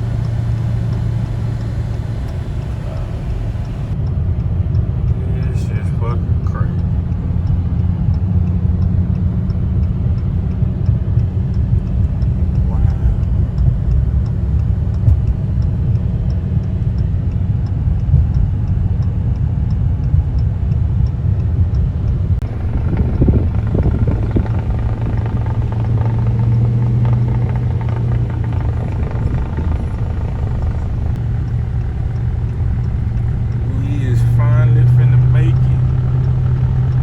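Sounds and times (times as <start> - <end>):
low mechanical rumble: 0.0 - 18.8, 21.8 - 37.0
faint regular ticking: 0.0 - 37.0.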